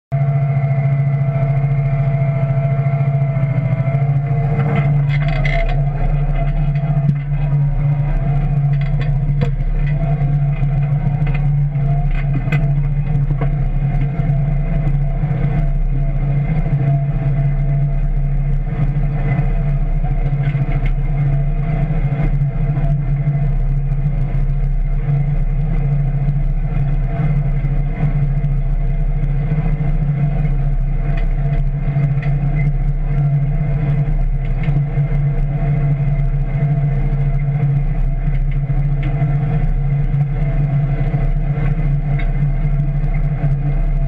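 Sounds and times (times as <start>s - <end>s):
tractor engine drone: 0.1s - 44.0s.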